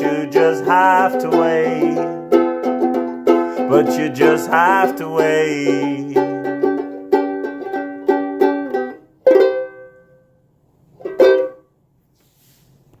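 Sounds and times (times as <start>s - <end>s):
plucked string instrument strumming: 0.0s - 10.3s, 11.0s - 11.7s.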